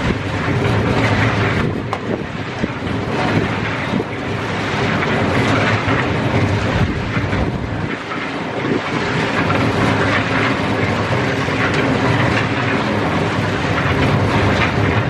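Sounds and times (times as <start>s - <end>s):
machine running with low hum: 0.0s - 15.0s.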